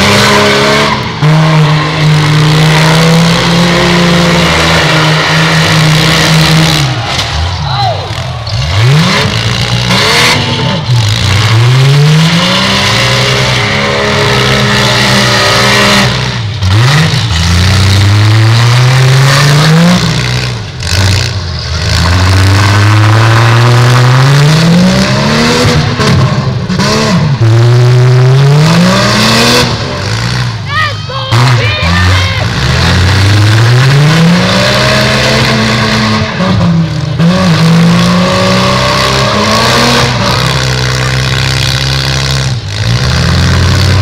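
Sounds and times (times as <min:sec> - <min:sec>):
car engines revving hard: 0:00.0 - 0:44.0.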